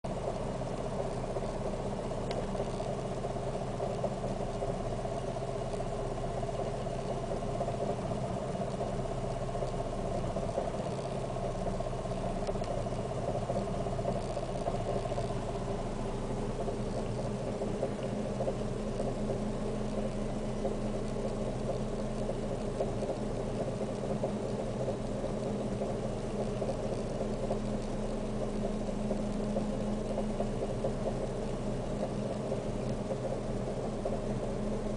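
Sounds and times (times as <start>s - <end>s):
car engine idling rough: 0.1s - 34.9s.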